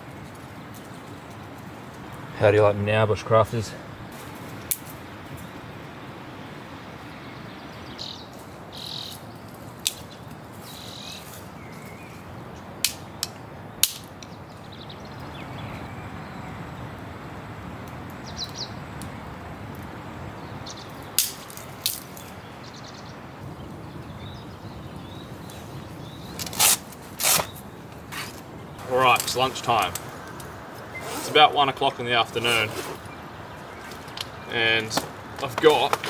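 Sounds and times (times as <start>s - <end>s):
campfire crackling and popping: 0.0s - 7.0s, 8.0s - 36.0s
birds chirping: 0.0s - 36.0s
steady hiss: 0.0s - 36.0s.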